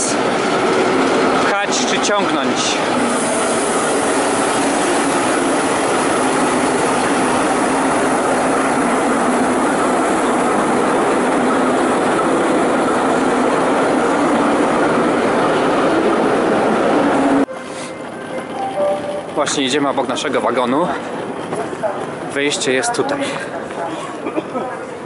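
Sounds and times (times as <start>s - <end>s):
diesel locomotive idling: 0.0s - 25.0s.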